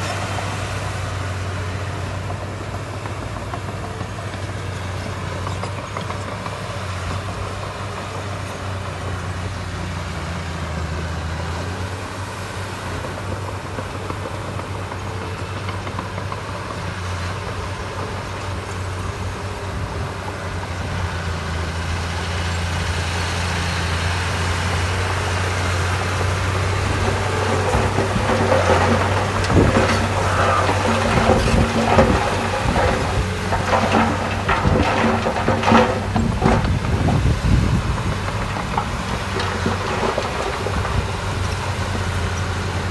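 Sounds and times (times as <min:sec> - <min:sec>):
heavy diesel engine humming: 0:00.0 - 0:42.9.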